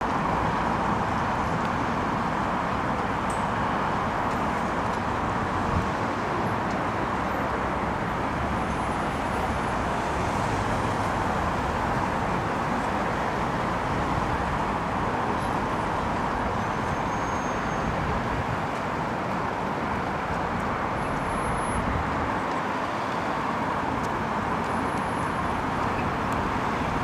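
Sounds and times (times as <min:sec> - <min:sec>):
distant road traffic: 0:00.0 - 0:27.0.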